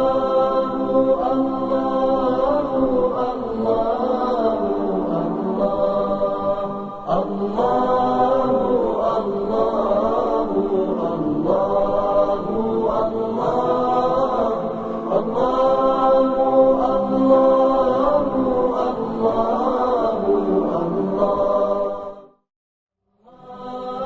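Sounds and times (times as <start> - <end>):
layered voices chanting aah: 0.0 - 22.2, 23.2 - 24.0.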